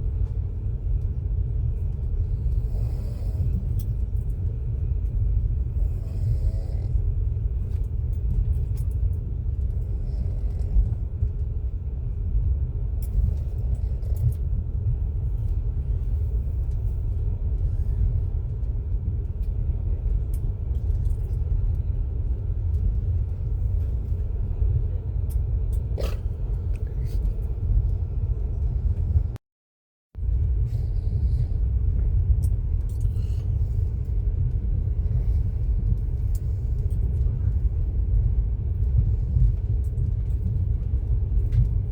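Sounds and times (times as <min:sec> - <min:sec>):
faint steady whine: 0:00.0 - 0:29.4, 0:30.2 - 0:41.9
vehicle rumble from inside: 0:00.0 - 0:29.4, 0:30.2 - 0:41.9.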